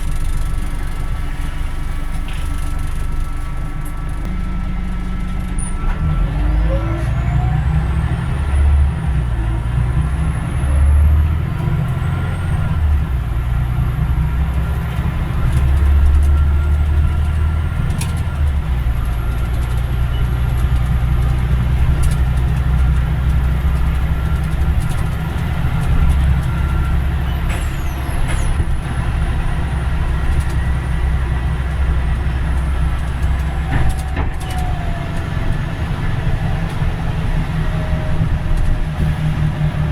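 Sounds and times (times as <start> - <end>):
bus engine low rumble: 0.0 - 39.9.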